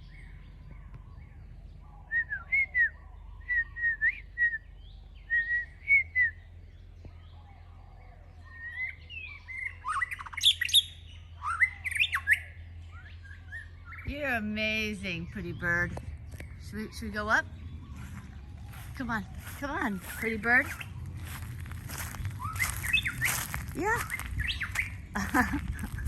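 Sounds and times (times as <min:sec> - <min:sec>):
bird whistling calls: 0:00.0 - 0:06.6, 0:08.4 - 0:14.1, 0:16.4 - 0:26.0.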